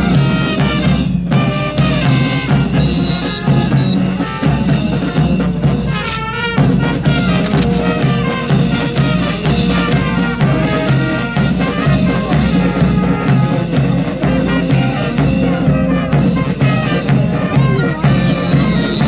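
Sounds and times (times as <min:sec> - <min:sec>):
brass band playing a march: 0:00.0 - 0:19.0
steady drum beat: 0:00.0 - 0:19.0.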